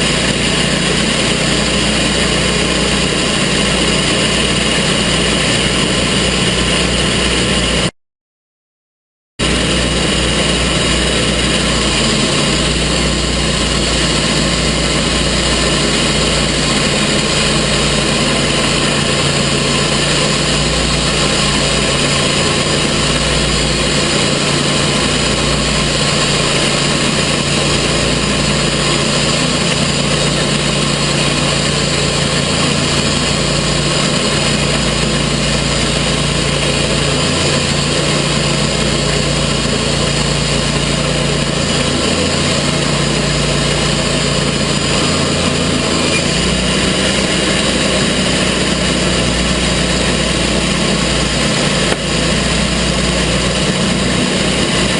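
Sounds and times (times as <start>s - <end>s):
sawmill engine running: 0.0s - 7.9s, 9.4s - 54.9s.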